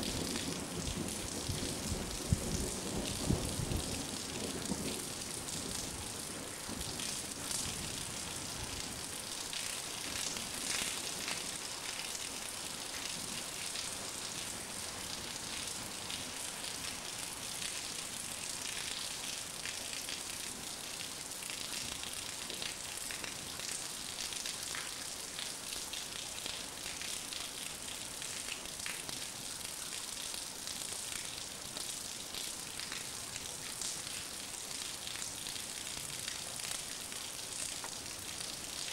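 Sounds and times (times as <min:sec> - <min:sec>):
heavy rain falling: 0:00.0 - 0:30.2, 0:30.9 - 0:38.9.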